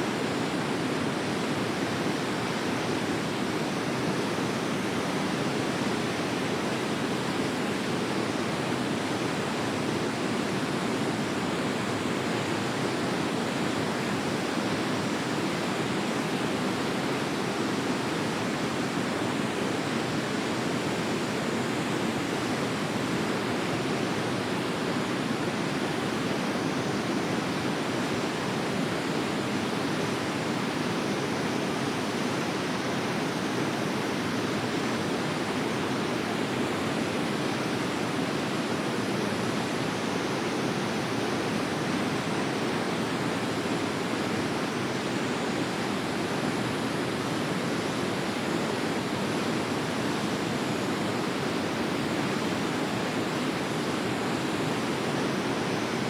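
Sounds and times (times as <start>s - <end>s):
river flowing: 0.1s - 56.0s.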